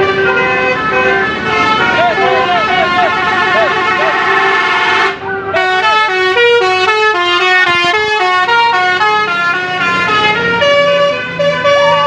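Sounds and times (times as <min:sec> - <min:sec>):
multi-tone bus horn tune: 0:00.0 - 0:12.0.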